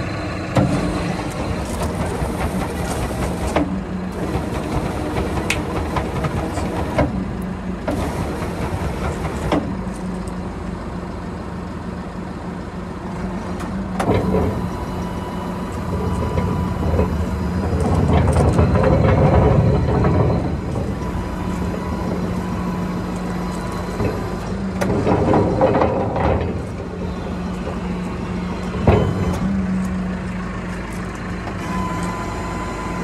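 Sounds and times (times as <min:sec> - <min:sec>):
tractor engine droning: 0:00.0 - 0:33.0.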